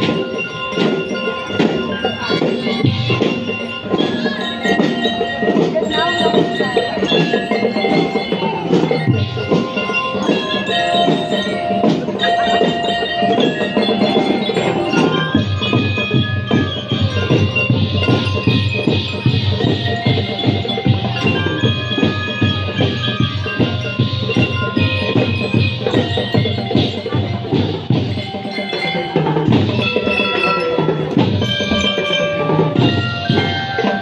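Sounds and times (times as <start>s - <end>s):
bell lyres ringing melody: 0.0s - 34.0s
snare and bass drums: 0.0s - 34.0s.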